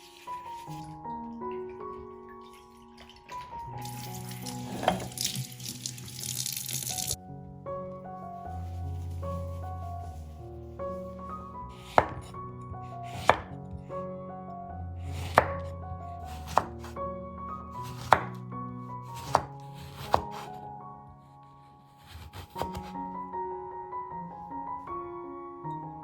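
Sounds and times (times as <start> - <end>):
soft background music: 0.0 - 26.0.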